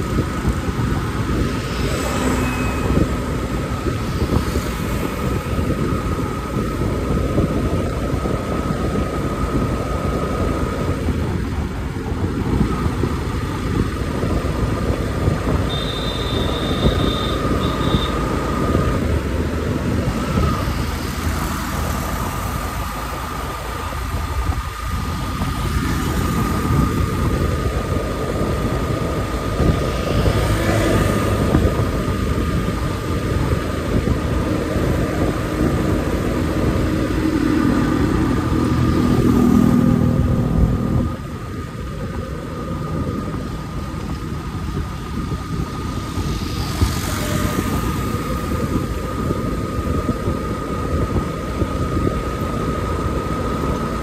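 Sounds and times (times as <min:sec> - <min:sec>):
motorcycle engine running: 0:00.0 - 0:54.0
thin steady whine: 0:00.0 - 0:54.0
wind and road noise: 0:00.0 - 0:54.0.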